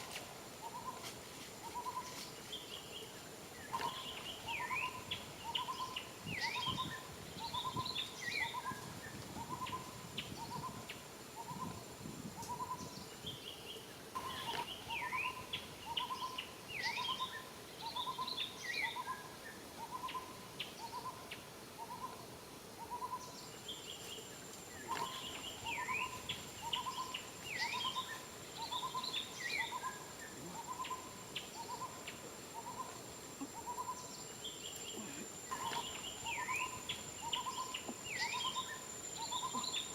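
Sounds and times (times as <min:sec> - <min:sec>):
faint high-pitched hum: 0:00.0 - 0:39.9.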